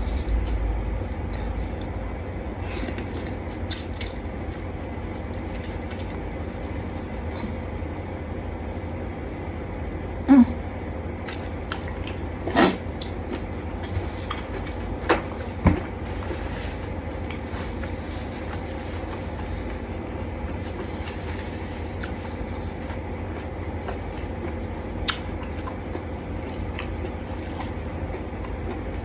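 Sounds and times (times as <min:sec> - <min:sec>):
person chewing food: 0:00.0 - 0:08.1, 0:11.2 - 0:29.0
low hum: 0:00.0 - 0:29.0.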